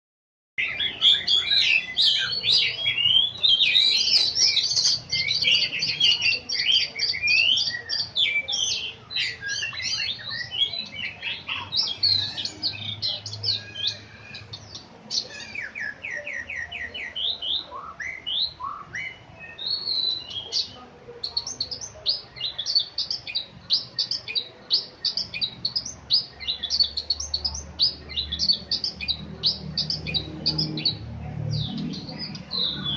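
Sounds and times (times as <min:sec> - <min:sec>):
songbird singing whistled phrases: 0:00.6 - 0:31.0.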